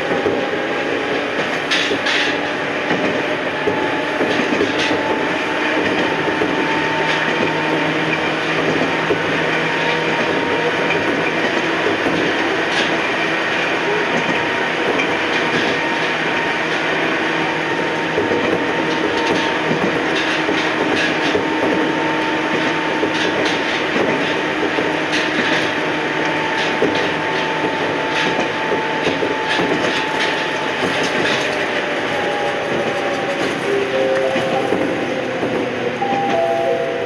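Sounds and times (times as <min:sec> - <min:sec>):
wheels clicking over rail joints: 0:00.0 - 0:36.9
train wheels rumbling on rail: 0:00.0 - 0:37.0.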